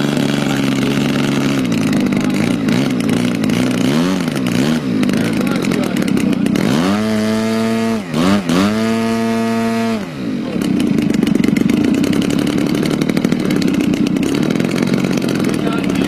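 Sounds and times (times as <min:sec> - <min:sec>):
model airplane engine revving: 0:00.0 - 0:16.0.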